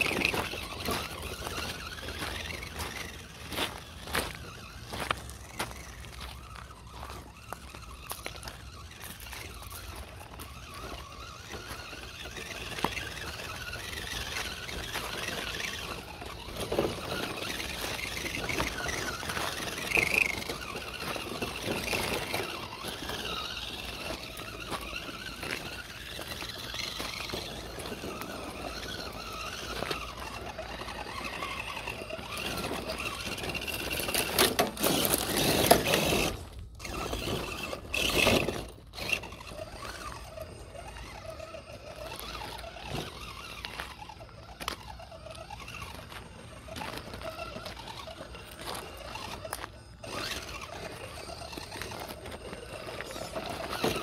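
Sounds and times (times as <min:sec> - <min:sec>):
rc car motor whining: 0:00.0 - 0:54.0
rocks crunching under tyres: 0:00.0 - 0:54.0.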